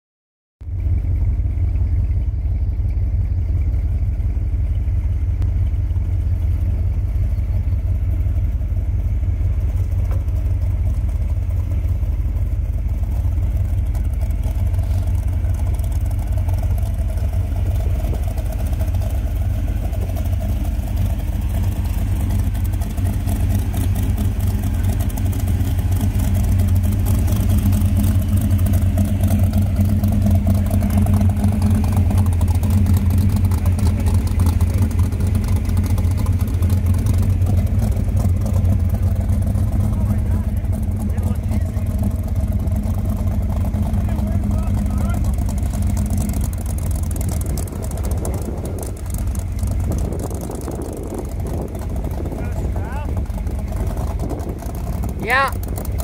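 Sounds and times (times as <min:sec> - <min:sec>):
engine deep rumble: 0:00.6 - 0:56.0.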